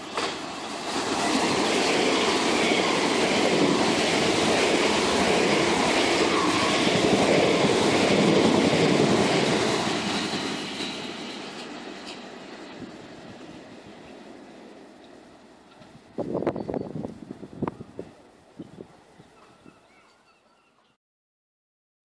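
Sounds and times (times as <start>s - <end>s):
train wheels rushing on rail: 0.0s - 19.6s.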